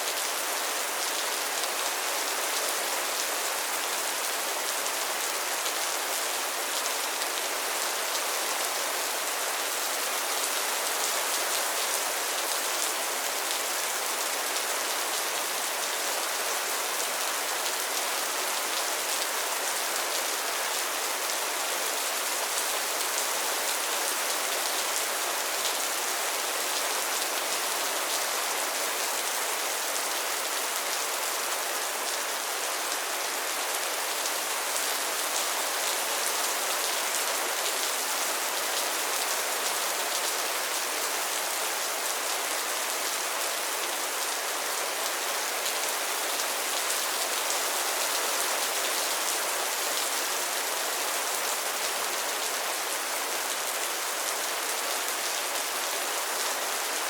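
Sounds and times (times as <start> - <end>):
rain falling on pond water: 0.0 - 57.0.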